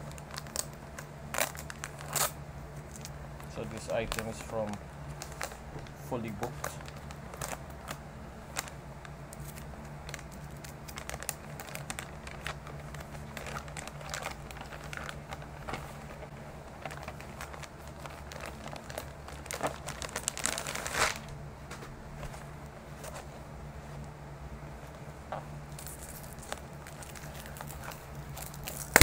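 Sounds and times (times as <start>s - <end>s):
plastic bag crinkling: 0.0s - 21.4s, 25.7s - 29.0s.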